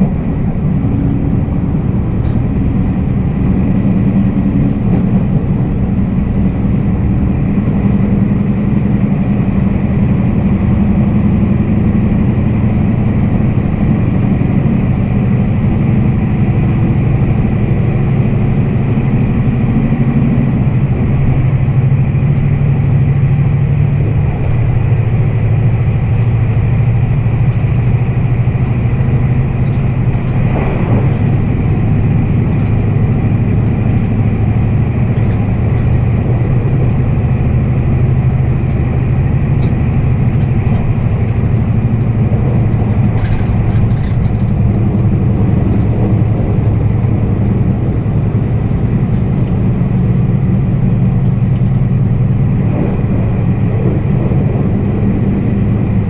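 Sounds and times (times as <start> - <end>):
train wheels and motors rumbling: 0.0 - 56.0.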